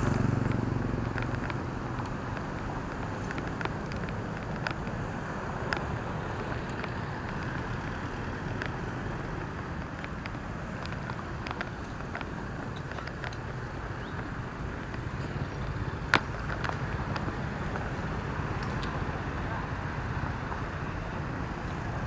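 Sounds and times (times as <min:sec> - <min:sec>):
cars and motorbikes passing: 0:00.0 - 0:22.0.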